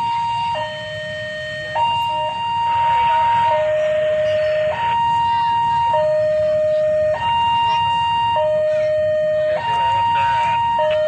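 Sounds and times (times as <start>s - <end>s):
level crossing two-tone alarm: 0.0s - 11.0s.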